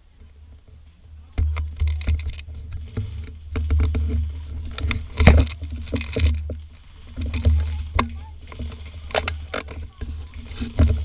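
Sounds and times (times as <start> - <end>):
sharp clicks and knocks: 0.2 - 11.0.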